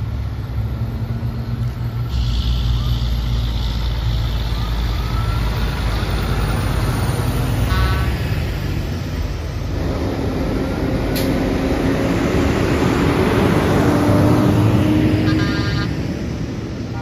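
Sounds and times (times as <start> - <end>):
truck diesel engines rumbling: 0.0 - 17.0.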